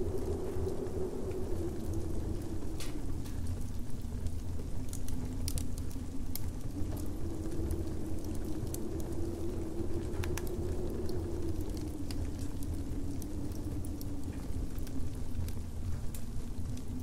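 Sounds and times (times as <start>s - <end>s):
low wind rumble with faint howl: 0.0s - 17.0s
wood fire crackling: 0.0s - 17.0s.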